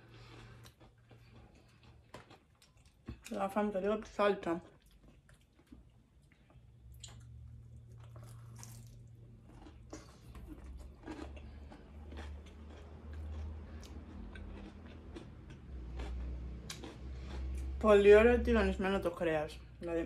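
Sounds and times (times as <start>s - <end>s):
person chewing food: 0.0s - 3.4s, 4.6s - 17.8s.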